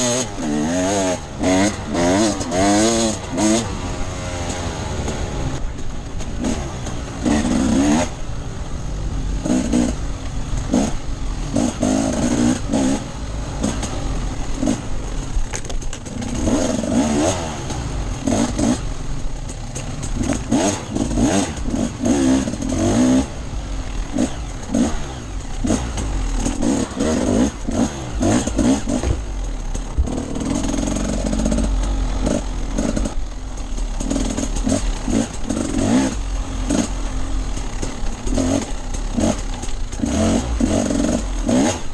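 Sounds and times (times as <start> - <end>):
clatter: 0.0 - 8.3, 9.4 - 41.9
motorcycle engine revving: 0.0 - 41.9.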